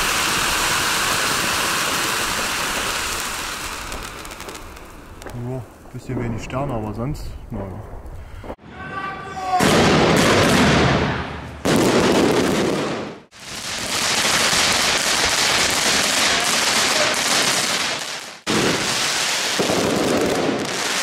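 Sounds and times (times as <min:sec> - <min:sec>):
fireworks crackling and hissing: 0:00.0 - 0:21.0.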